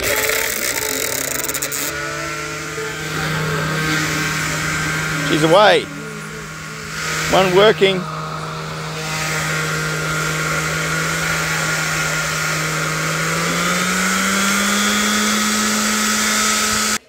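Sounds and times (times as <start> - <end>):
orbital sander running: 0.0 - 17.0.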